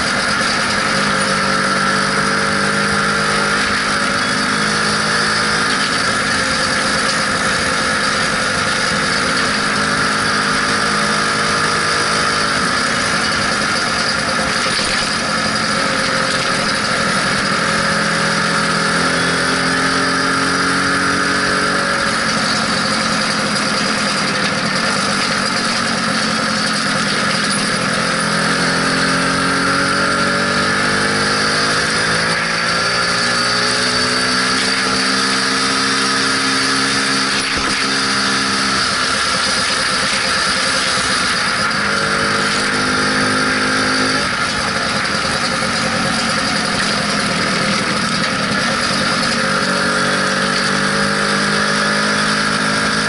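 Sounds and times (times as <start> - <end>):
scooter engine revving: 0.0 - 53.0
wind and road noise: 0.0 - 53.0.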